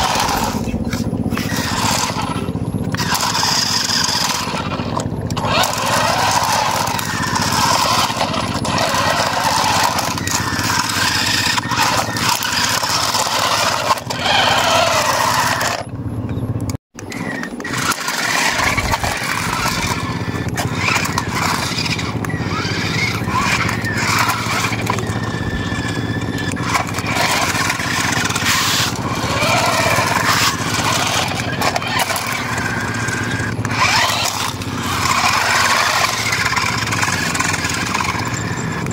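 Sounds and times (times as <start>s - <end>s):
tyres and chains scraping concrete: 0.0s - 15.9s, 17.1s - 38.9s
toy car electric motors whining: 0.0s - 16.0s, 16.6s - 38.9s.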